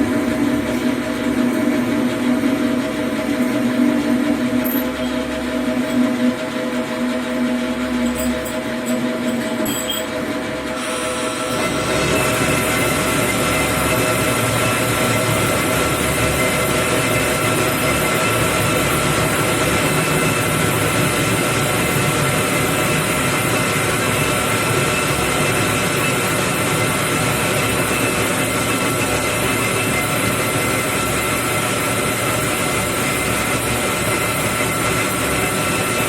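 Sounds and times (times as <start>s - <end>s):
metal lathe cutting with high whine: 0.0s - 36.0s.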